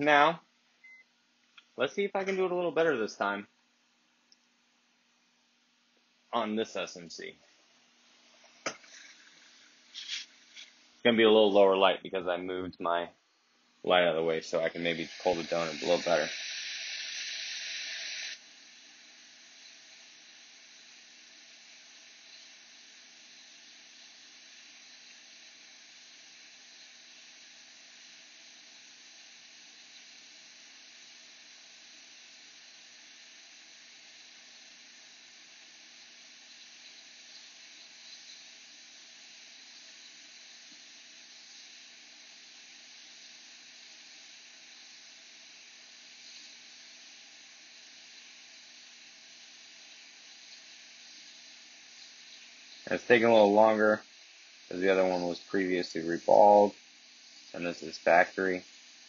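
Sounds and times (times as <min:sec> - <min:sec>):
hiss of hot air blower: 0:08.4 - 0:11.0, 0:14.2 - 0:59.0.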